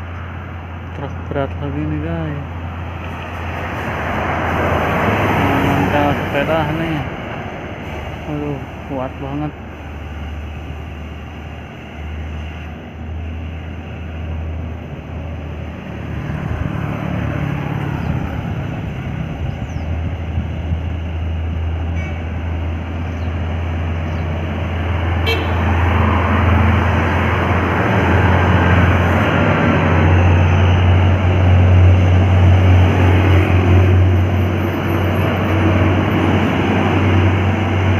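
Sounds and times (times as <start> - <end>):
truck diesel engine pulling uphill: 0.0 - 37.9.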